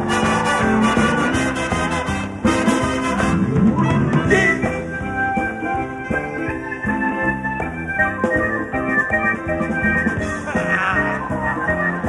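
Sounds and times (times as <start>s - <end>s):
calypso band playing: 0.0s - 12.0s.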